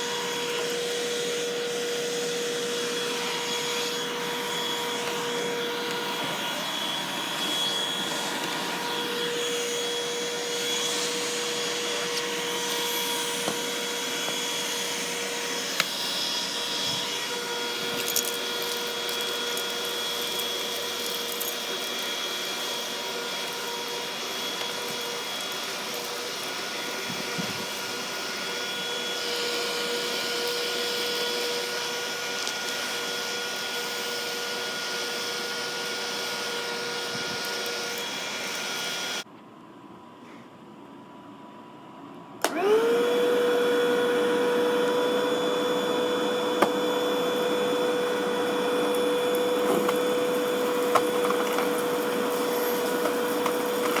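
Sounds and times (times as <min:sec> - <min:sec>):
vacuum cleaner motor whine: 0:00.0 - 0:39.3, 0:42.4 - 0:54.0.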